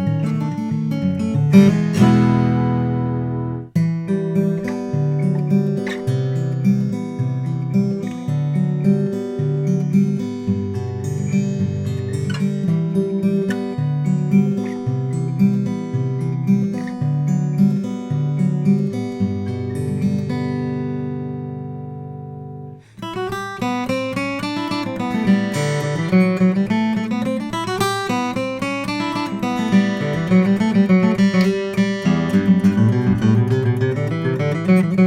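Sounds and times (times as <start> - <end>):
acoustic guitar playing: 0.0 - 35.0.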